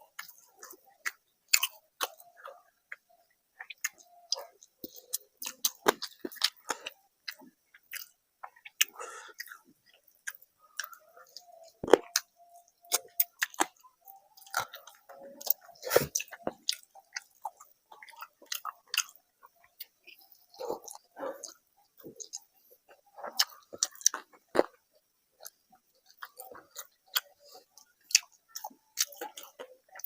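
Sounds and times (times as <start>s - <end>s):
close chewing: 0.1s - 30.0s.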